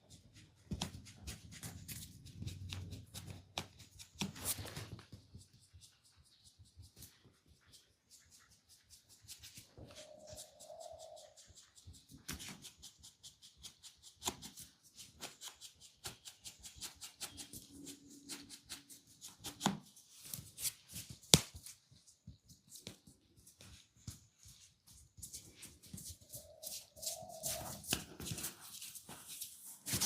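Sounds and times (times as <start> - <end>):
fingers scratching through hair: 0.4 - 21.1, 22.3 - 30.0.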